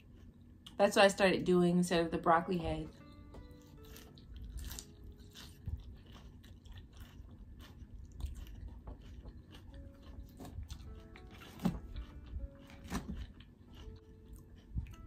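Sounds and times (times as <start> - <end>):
person chewing crunchy salad: 0.0 - 0.8, 2.9 - 15.0.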